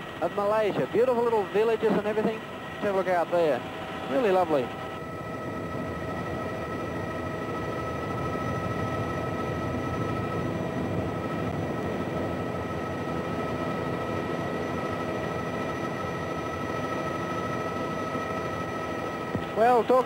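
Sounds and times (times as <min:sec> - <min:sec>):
helicopter engine and rotor noise: 0:00.0 - 0:20.0
high turbine whine: 0:00.0 - 0:20.0.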